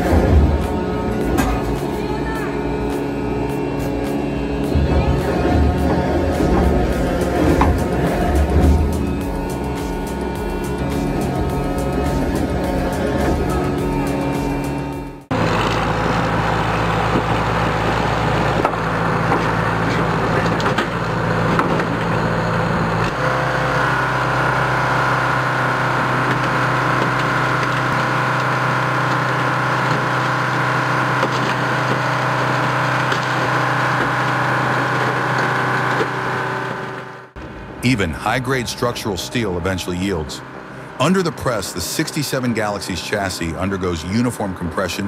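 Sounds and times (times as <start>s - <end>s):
engine drone: 0.0s - 45.0s.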